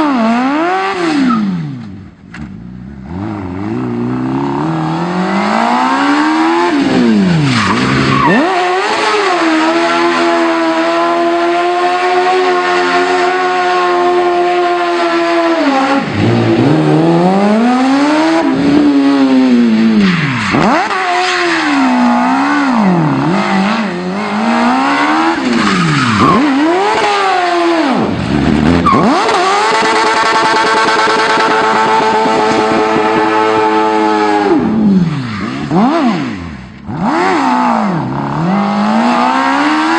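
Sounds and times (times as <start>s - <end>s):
car engine revving: 0.0s - 39.9s
tyres skidding: 1.2s - 39.9s.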